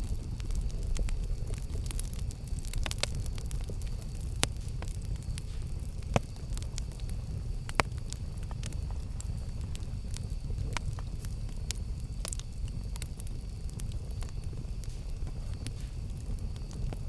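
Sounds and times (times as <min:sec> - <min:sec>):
campfire low rumble: 0:00.0 - 0:17.0
wood crackling and popping: 0:00.0 - 0:17.0.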